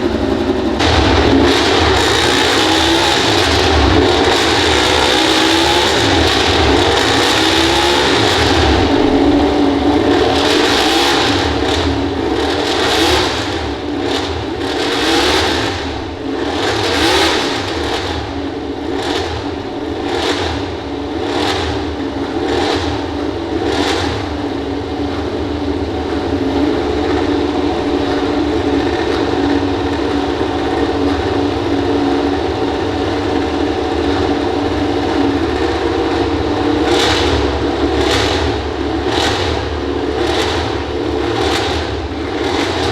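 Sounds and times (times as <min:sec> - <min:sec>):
race bike engines revving: 0:00.0 - 0:42.9.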